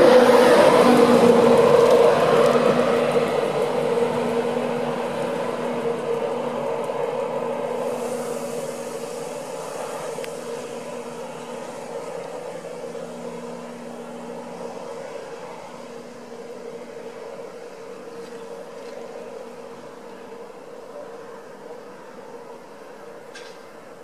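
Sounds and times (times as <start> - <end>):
electric train passing with whining hum: 0.0 - 24.0.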